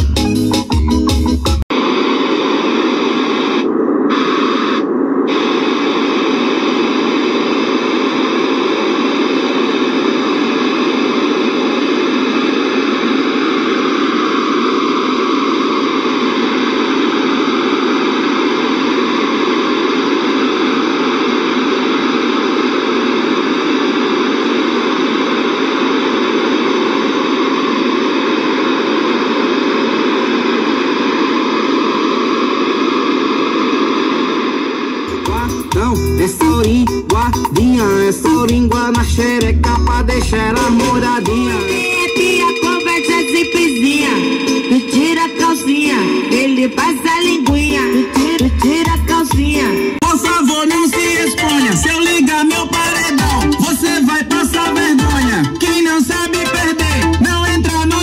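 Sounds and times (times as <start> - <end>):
static-like test noise hiss: 1.7 - 57.8.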